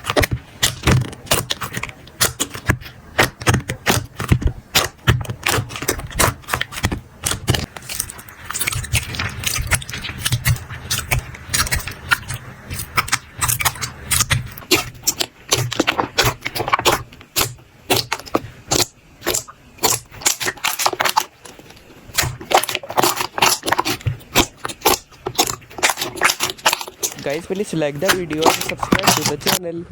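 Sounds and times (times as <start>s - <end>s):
slime squeezed by hand: 0.0s - 29.6s.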